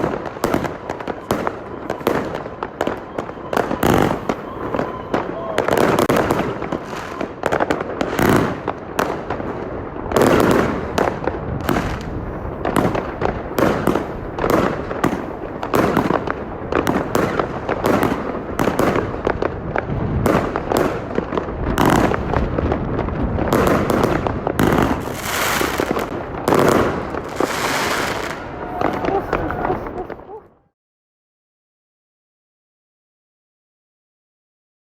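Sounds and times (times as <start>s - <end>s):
fireworks shots and bursts: 0.0s - 30.5s.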